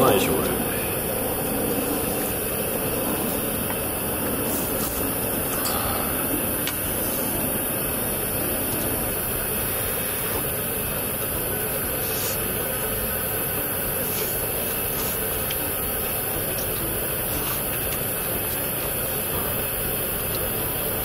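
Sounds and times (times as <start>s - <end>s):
gas stove burner hissing: 0.0s - 21.0s.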